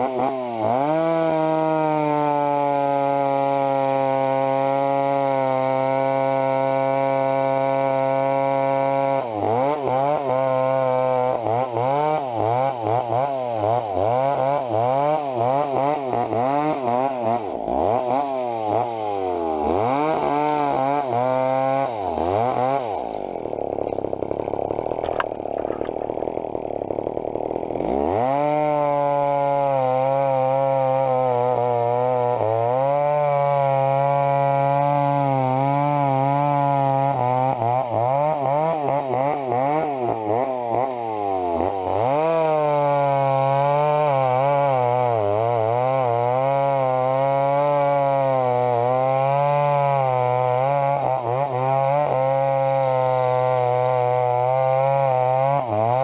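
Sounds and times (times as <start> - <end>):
chainsaw running hard: 0.0 - 56.0.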